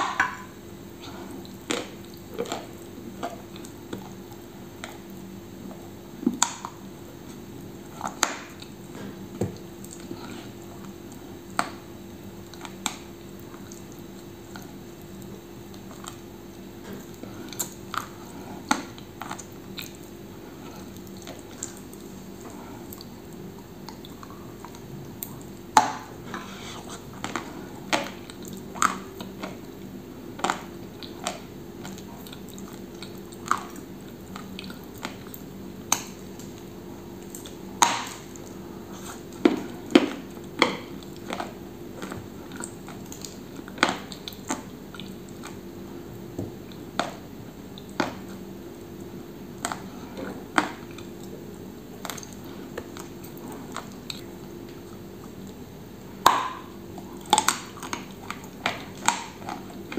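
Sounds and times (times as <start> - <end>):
crunchy bar chewing: 0.0 - 59.9
low steady hum: 0.0 - 59.9.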